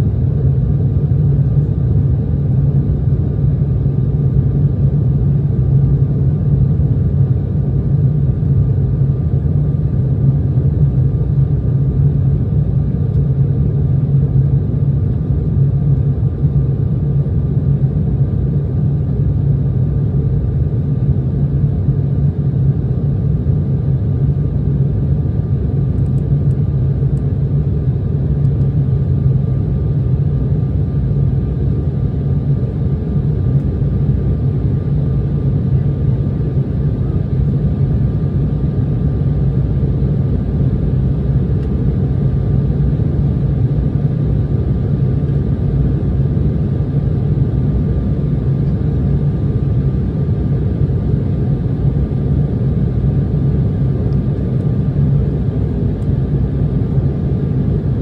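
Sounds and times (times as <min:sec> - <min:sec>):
faint steady whine: 0:00.0 - 0:58.0
jet engine and airflow rumble: 0:00.0 - 0:58.0.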